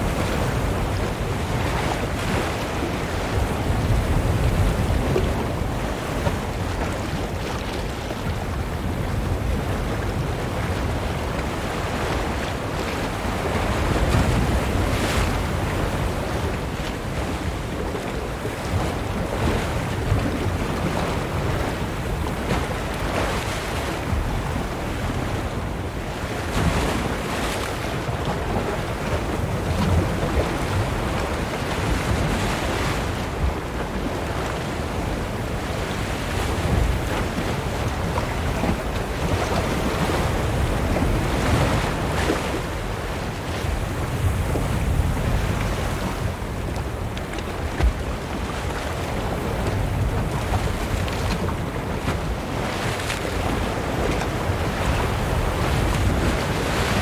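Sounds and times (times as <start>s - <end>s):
ocean surf washing onto beach: 0.0s - 57.0s
wind rumble on microphone: 0.0s - 57.0s.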